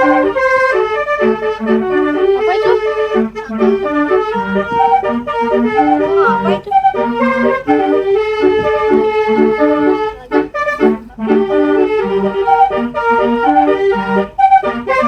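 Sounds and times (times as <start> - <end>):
musical bus horn playing a tune: 0.0 - 15.0.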